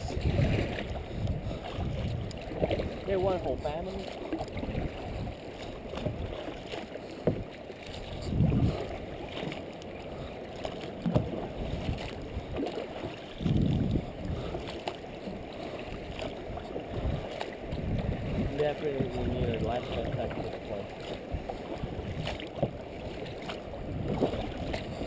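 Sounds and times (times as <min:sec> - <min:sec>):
wind on microphone: 0:00.0 - 0:06.6, 0:07.2 - 0:09.5, 0:10.1 - 0:25.0
water sloshing and splashing: 0:00.0 - 0:25.0.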